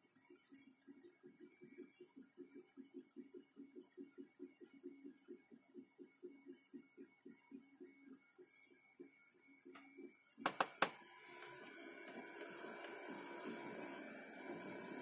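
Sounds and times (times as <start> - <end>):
motors and fans whirring: 0.0 - 15.0.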